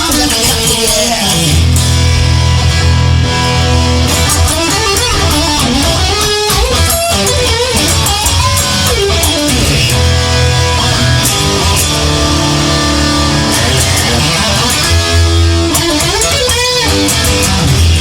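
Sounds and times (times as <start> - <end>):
electric guitar: 0.0 - 18.0
low bass notes: 0.0 - 18.0.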